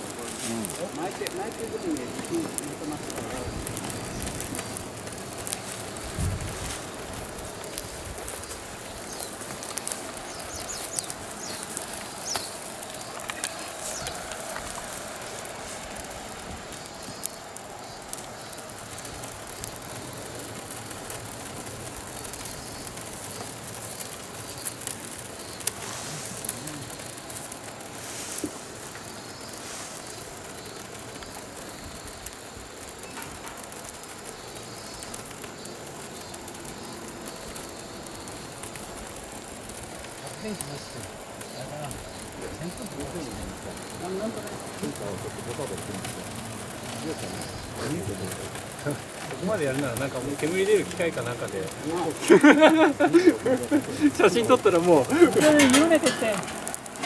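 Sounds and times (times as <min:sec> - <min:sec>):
fire crackling and popping: 0:00.0 - 0:57.0
fire hissing: 0:00.0 - 0:57.0.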